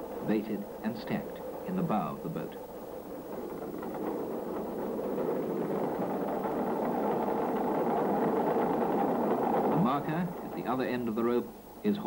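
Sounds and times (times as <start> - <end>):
boat engine running: 0.0 - 12.0
winch running: 0.0 - 12.0.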